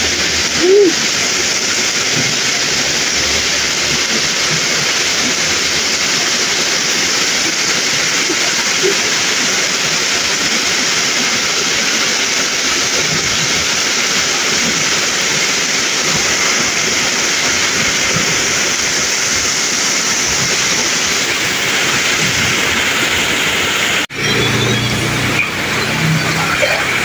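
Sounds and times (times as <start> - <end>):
heavy rain on floodwater: 0.0 - 27.0.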